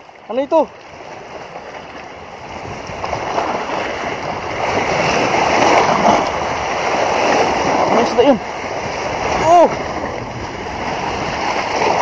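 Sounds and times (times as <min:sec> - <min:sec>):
sea waves rushing: 0:00.0 - 0:12.0
wind: 0:00.0 - 0:12.0.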